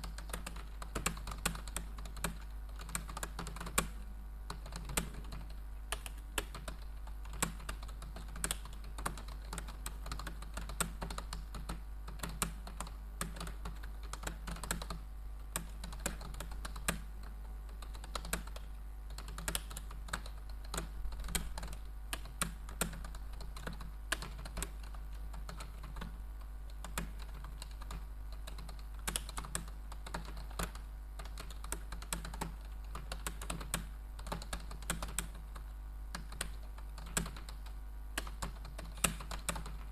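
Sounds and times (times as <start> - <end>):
keyboard typing: 0.0 - 39.9
steady low hum: 0.0 - 39.9.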